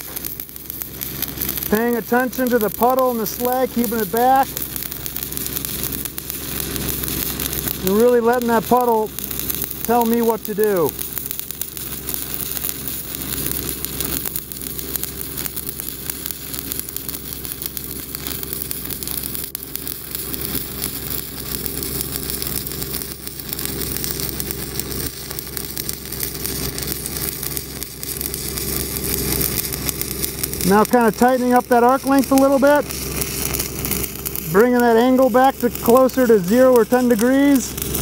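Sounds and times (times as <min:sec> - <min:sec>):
welding arc crackling: 0:00.0 - 0:38.0.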